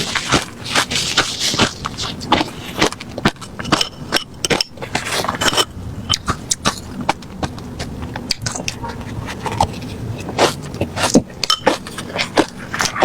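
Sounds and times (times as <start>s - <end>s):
ice crunching while chewed: 0.0s - 13.0s.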